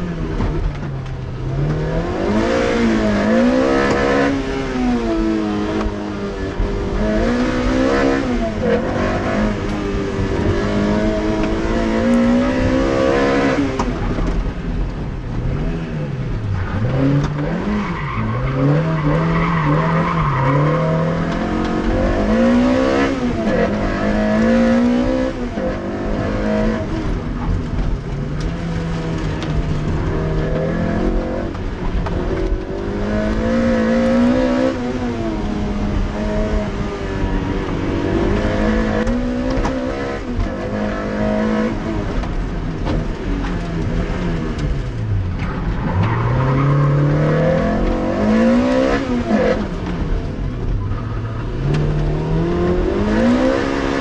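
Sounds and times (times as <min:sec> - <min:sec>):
car engine revving hard: 0:01.5 - 0:14.5, 0:15.5 - 0:54.0.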